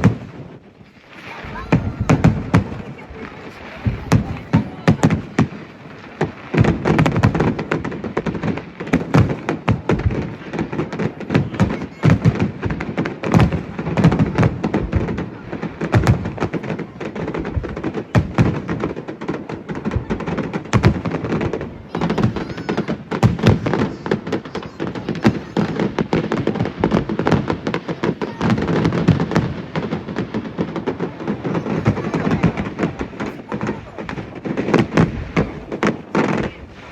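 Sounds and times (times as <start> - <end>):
aerial fireworks bursting: 0.0 - 36.9.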